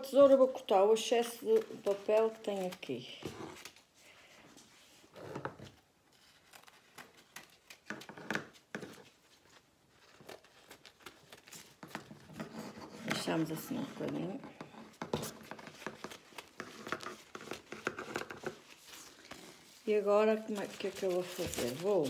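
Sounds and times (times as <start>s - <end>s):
baking paper rustling and crinkling: 0.1s - 22.0s.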